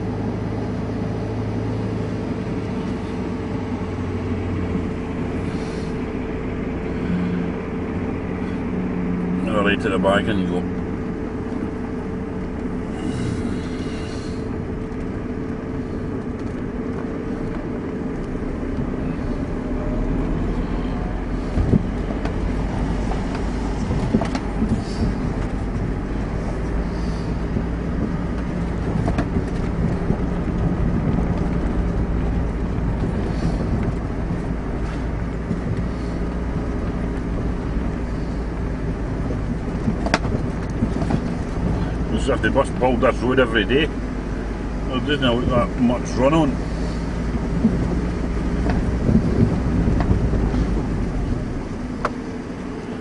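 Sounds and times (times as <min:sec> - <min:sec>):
road noise: 0:00.0 - 0:53.0
vehicle engine rumble: 0:00.0 - 0:53.0.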